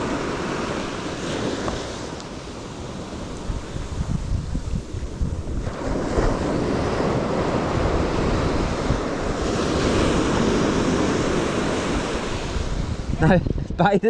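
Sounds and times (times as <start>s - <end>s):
waves washing up sand: 0.0s - 13.4s
wind buffeting microphone: 0.0s - 14.0s.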